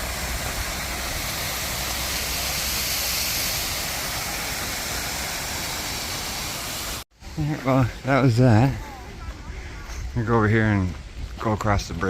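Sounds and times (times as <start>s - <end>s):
falling water rushing: 0.0s - 10.5s.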